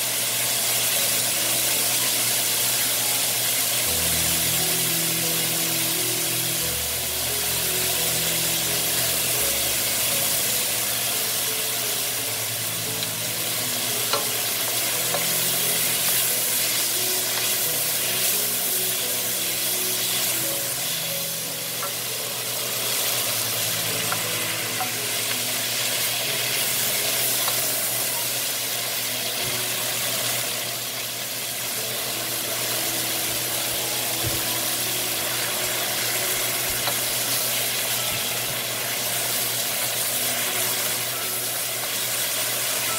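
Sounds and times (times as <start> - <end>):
vegetables sizzling in oil: 0.0 - 42.9.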